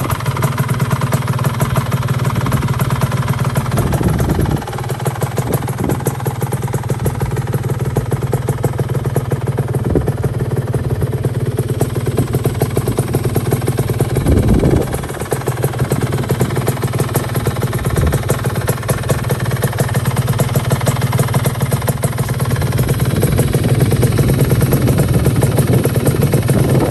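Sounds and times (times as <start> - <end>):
two-stroke engine idling: 0.0 - 26.9.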